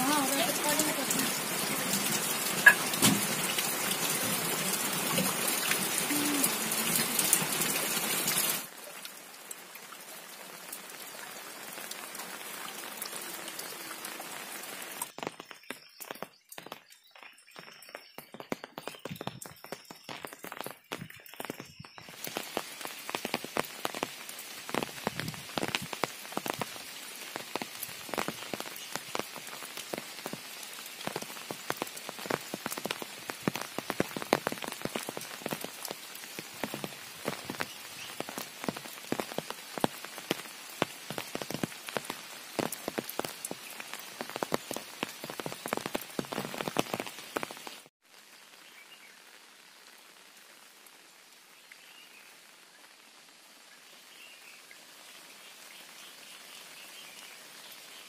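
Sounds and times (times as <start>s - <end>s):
heavy rain on umbrella: 0.0s - 58.0s
soft steady rain hiss: 0.0s - 58.0s.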